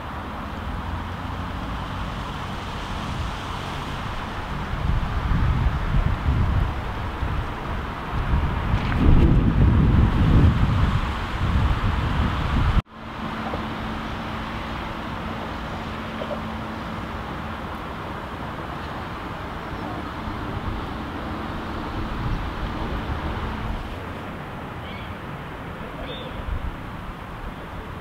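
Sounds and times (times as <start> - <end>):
rumbling outdoor background noise: 0.0 - 28.0
wind buffeting microphone: 2.0 - 28.0.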